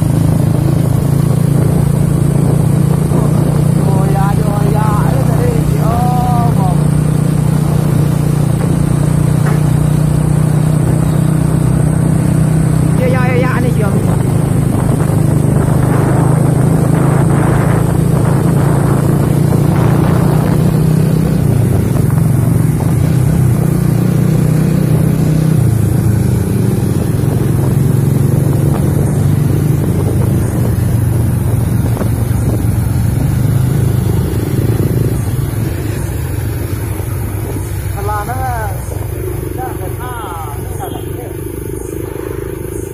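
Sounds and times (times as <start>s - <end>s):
heavy truck engine running: 0.0s - 42.9s.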